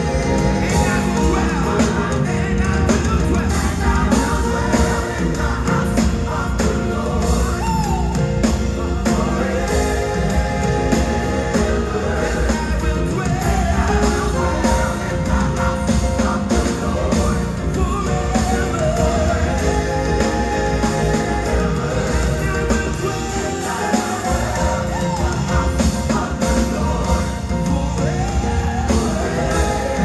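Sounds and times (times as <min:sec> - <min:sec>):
drums keeping a beat: 0:00.0 - 0:30.0
gospel choir singing: 0:00.0 - 0:30.0.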